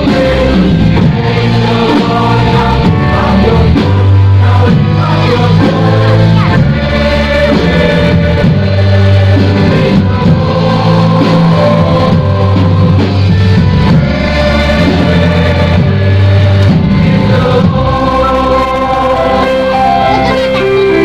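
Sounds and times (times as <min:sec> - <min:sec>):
choir-like singing with music: 0:00.0 - 0:21.0.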